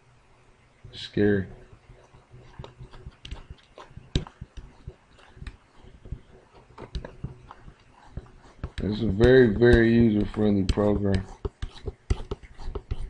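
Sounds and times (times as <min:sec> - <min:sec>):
stylus tapping on drawing tablet: 0:01.6 - 0:13.0.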